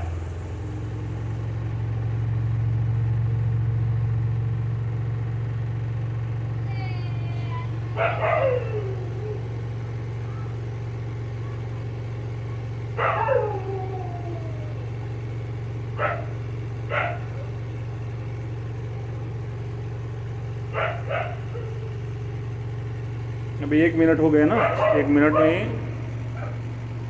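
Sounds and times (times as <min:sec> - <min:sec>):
spin dryer humming: 0:00.0 - 0:27.0.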